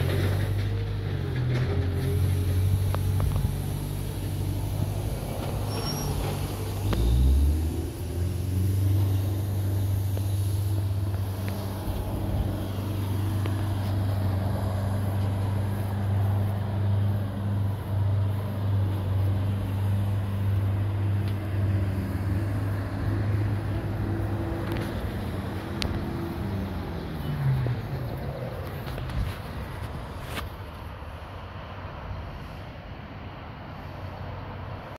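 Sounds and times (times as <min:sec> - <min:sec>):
diesel engine idling: 0:00.0 - 0:30.2.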